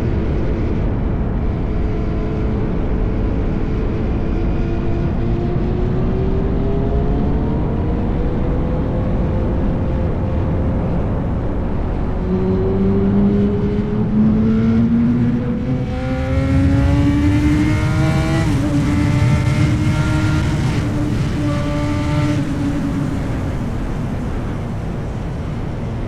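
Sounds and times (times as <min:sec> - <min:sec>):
motorcycle engine accelerating: 0:03.6 - 0:26.0.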